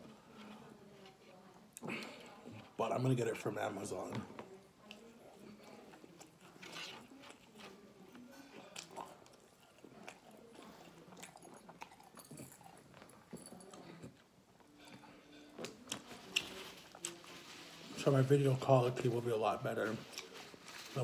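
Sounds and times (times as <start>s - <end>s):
person chewing softly: 0.0s - 18.1s, 19.6s - 21.0s.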